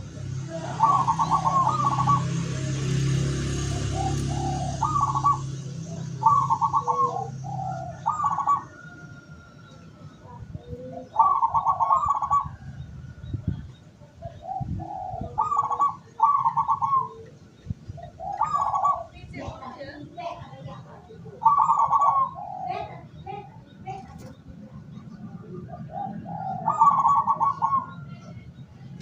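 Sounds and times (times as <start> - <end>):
dove cooing: 0.0 - 28.3.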